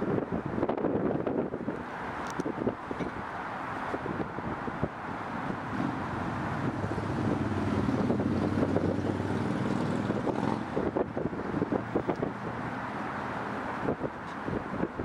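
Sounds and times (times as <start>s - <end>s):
wind on microphone: 0.0s - 15.0s
vehicle engine hum passing: 0.7s - 15.0s.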